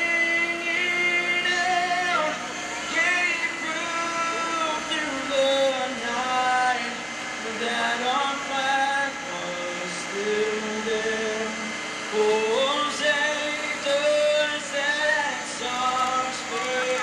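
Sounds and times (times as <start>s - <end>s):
person singing long notes: 0.0s - 17.0s.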